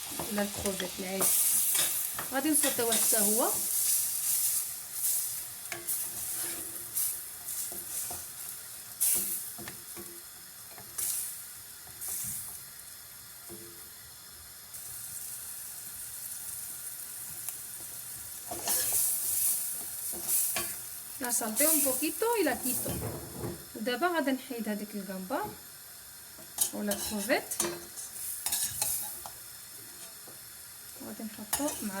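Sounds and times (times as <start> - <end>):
prawns sizzling in a frying pan: 0.0 - 32.0.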